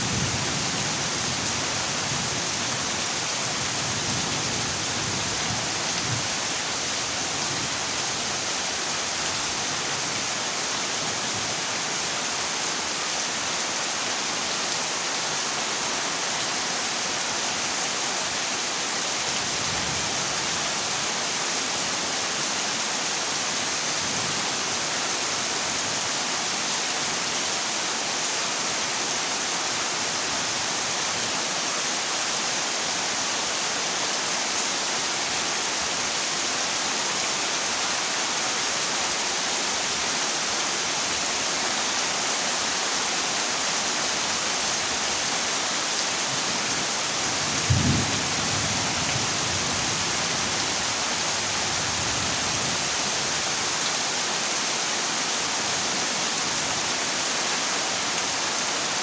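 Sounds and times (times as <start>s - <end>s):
heavy rain on metal roof: 0.0s - 59.0s.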